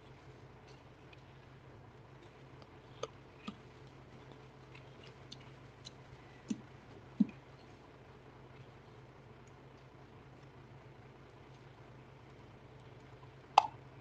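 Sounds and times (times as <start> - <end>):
low microphone hum: 0.0 - 14.0.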